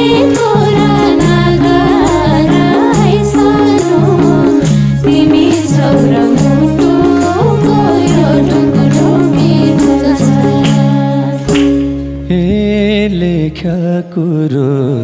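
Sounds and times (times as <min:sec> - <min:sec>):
folk band playing: 0:00.0 - 0:12.5.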